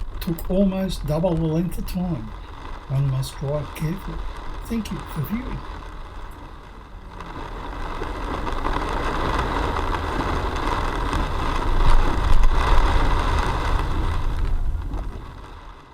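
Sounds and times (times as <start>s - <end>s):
deep rumble: 0.0s - 15.9s
steady rushing noise: 0.0s - 15.9s.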